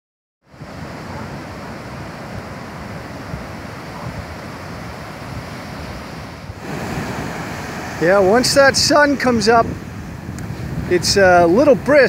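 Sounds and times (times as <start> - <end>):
ocean surf washing on beach: 0.4 - 12.0
wind rumbling on microphone: 0.4 - 12.0.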